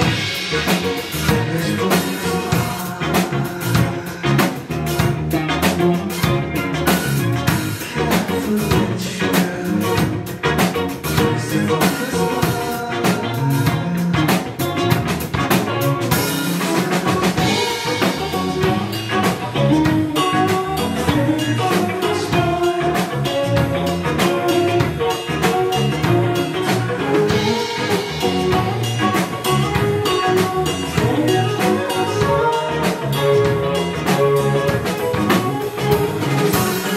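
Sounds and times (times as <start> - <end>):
drum kit beating: 0.0 - 36.9
electric guitar: 0.0 - 36.9.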